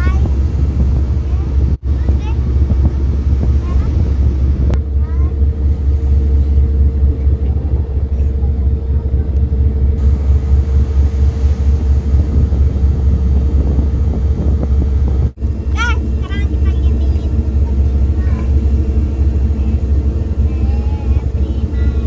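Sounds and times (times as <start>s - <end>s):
ferry engines rumbling: 0.0s - 22.0s
wind on microphone: 0.0s - 22.0s
faint hum: 1.9s - 22.0s.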